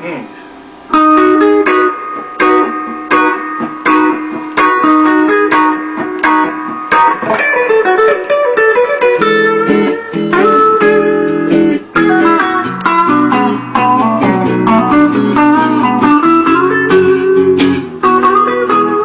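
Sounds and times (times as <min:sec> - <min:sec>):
electric guitar solo: 0:00.8 - 0:19.0.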